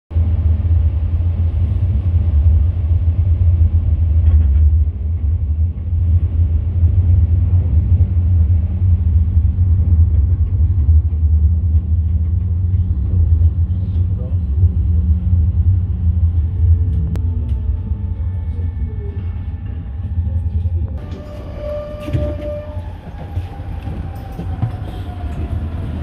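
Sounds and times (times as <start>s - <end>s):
tram rumbling on tracks: 0.1s - 26.0s.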